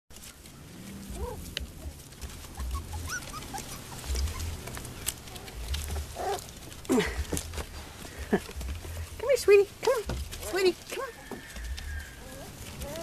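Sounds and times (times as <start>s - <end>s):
puppies whimpering: 1.0s - 9.0s, 10.4s - 13.0s.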